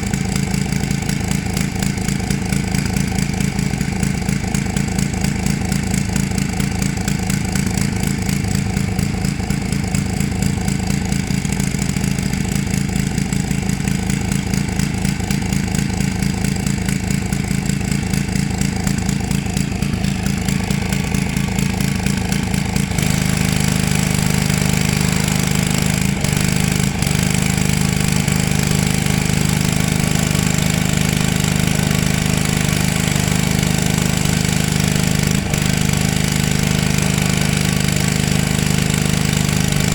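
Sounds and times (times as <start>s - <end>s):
pressure washer engine putter: 0.0s - 39.9s.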